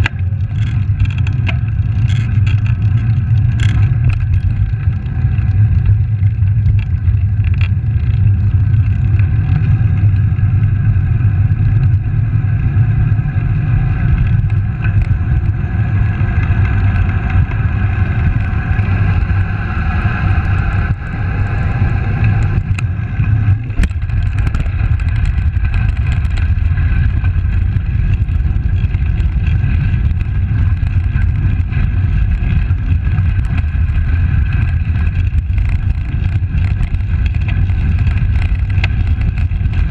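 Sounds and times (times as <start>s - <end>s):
bike tyres rolling on asphalt: 0.0s - 39.9s
wind buffeting microphone: 0.0s - 39.9s.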